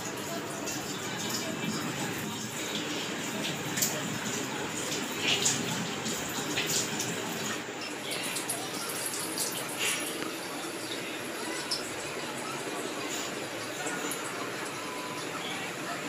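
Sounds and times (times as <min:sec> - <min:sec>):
tap water running into a washbasin: 0:00.0 - 0:16.0.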